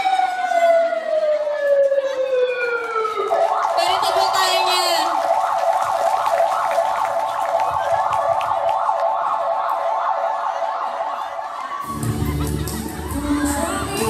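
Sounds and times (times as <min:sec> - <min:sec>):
siren yelping: 0:00.0 - 0:13.5.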